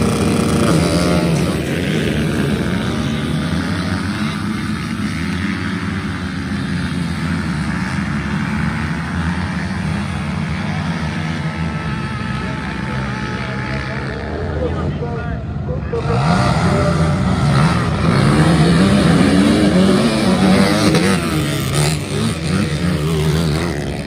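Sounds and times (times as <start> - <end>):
racing quad engines at full throttle: 0.0 - 24.0.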